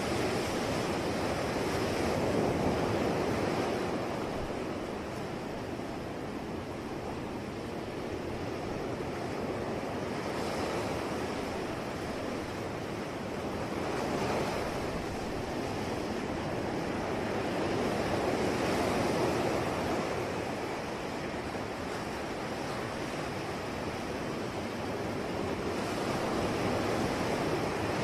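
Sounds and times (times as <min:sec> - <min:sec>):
waves breaking on shore: 0:00.0 - 0:28.0.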